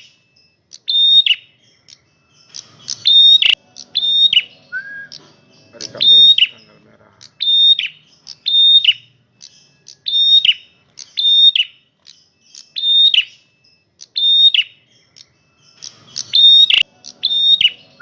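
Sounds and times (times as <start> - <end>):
songbird calling: 0.0 - 18.0.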